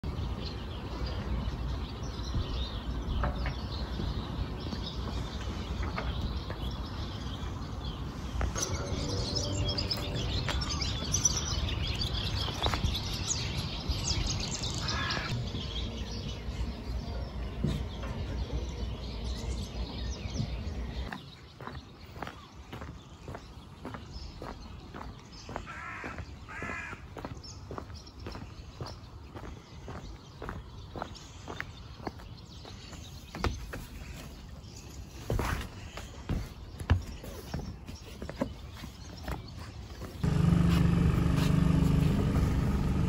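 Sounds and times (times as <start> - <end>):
birds chirping and calling: 0.0 - 43.0.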